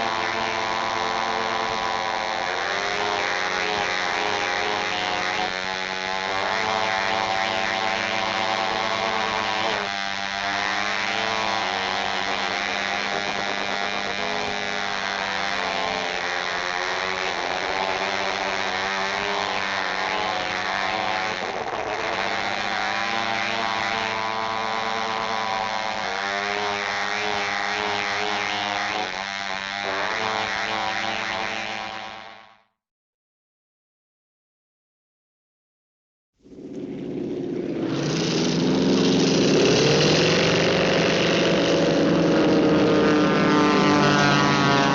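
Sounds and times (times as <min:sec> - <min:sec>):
buzzing motor-like hum: 0:00.0 - 0:32.7, 0:36.4 - 0:44.9.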